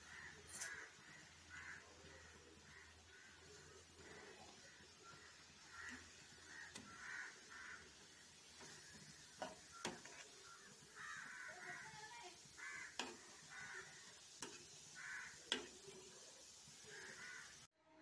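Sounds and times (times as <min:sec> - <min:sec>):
crows cawing: 0:00.0 - 0:17.7
seasoning simmering: 0:00.0 - 0:17.7
spatula scraping a pan: 0:00.4 - 0:17.6.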